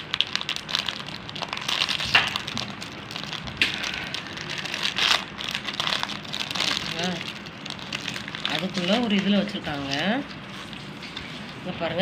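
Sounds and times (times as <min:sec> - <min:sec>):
plastic packet crinkling: 0:00.0 - 0:10.9.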